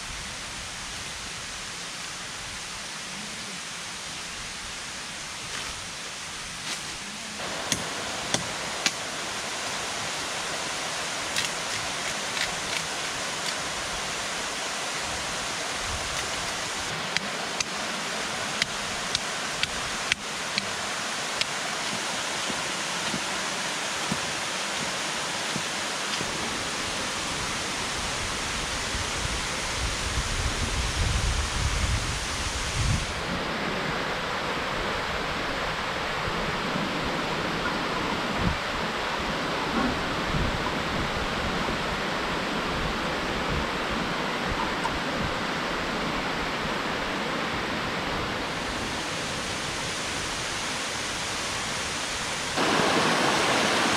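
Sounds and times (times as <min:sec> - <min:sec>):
flowing water: 0:00.0 - 0:53.9.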